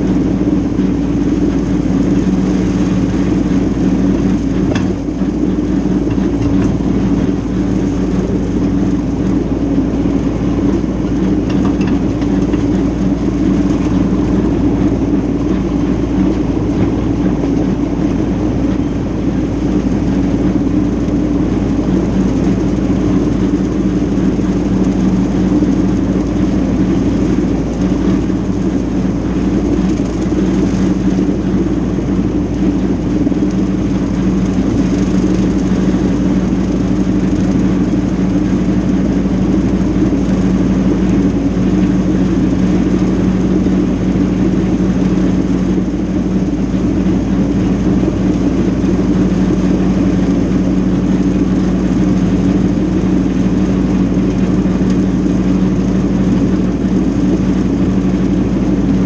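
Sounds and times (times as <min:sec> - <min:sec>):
tractor diesel engine drone: 0:00.0 - 0:59.0.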